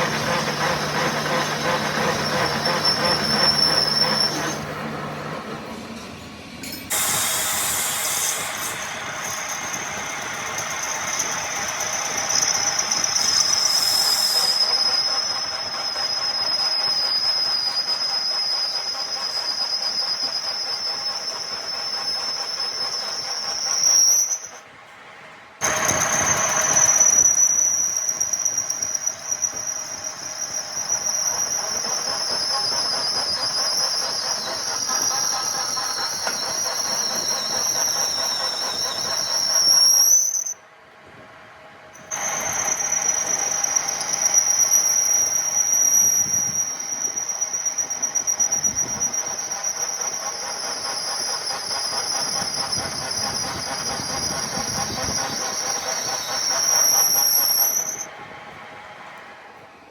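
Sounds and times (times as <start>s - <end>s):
lathe tool squealing on metal: 0.0s - 4.9s, 6.9s - 24.6s, 25.6s - 40.6s, 42.0s - 58.1s.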